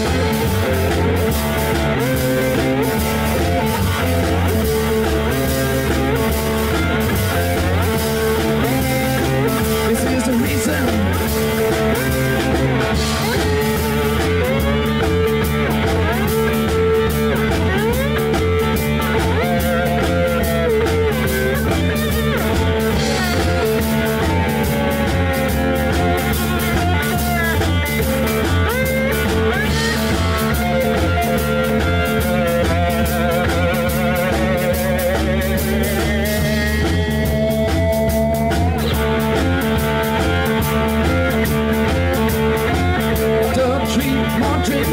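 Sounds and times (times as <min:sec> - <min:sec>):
drum kit: 0:00.0 - 0:44.9
electric bass: 0:00.0 - 0:44.9.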